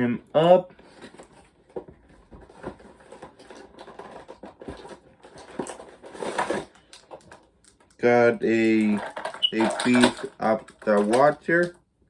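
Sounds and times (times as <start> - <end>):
plastic and cardboard crinkling: 0.7 - 11.8.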